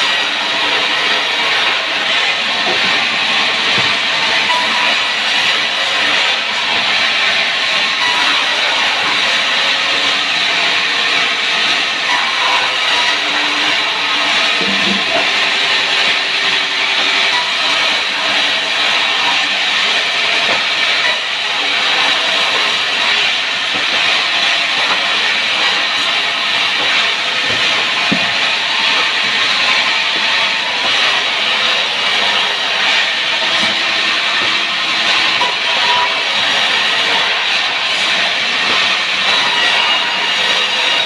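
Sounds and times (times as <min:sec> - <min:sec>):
power saw cutting wood: 0:00.0 - 0:41.0.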